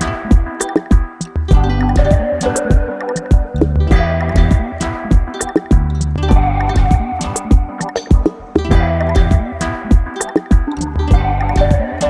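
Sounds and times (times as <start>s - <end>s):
funk music with guitar and drums: 0.0s - 12.0s.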